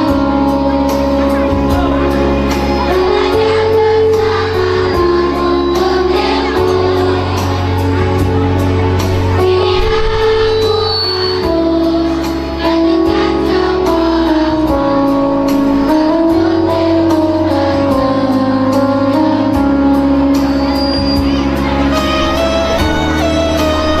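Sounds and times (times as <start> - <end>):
children's choir singing: 0.0 - 24.0
steady beat and bass: 0.0 - 24.0.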